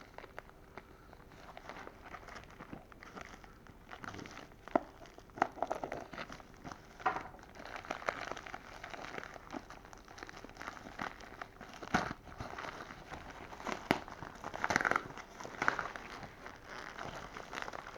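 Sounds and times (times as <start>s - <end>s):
packaging crinkling and rustling: 0.0s - 17.9s.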